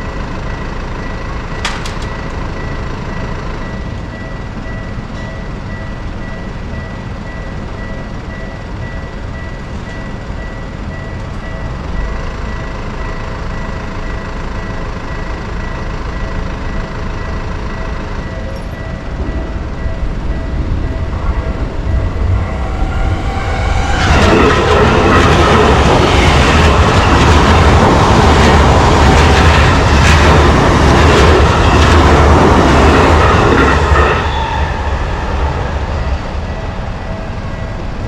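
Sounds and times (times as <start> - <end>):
level crossing warning bell: 0.0 - 32.0, 35.8 - 38.0
train rumble: 0.0 - 38.0.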